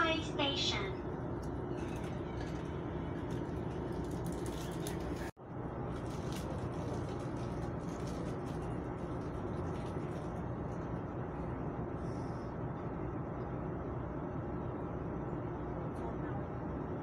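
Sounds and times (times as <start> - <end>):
train coach interior noise: 0.0 - 17.0.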